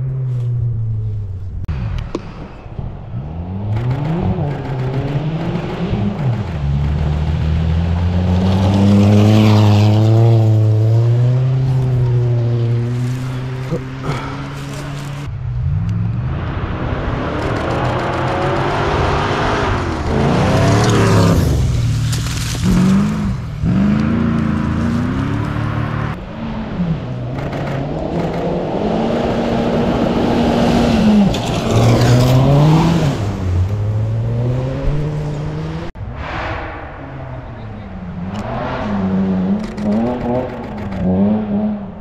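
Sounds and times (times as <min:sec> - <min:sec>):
rally car engine revving: 0:00.0 - 0:36.0, 0:37.2 - 0:42.0
constant rushing noise: 0:01.4 - 0:08.4, 0:11.6 - 0:32.3, 0:35.9 - 0:42.0.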